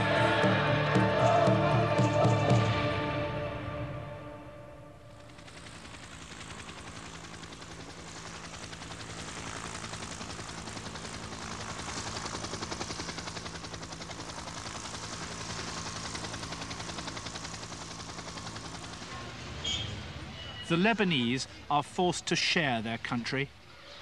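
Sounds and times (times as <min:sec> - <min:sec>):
helicopter rotor beating: 0:00.0 - 0:03.5, 0:05.0 - 0:23.6
helicopter engine hum: 0:00.0 - 0:22.4.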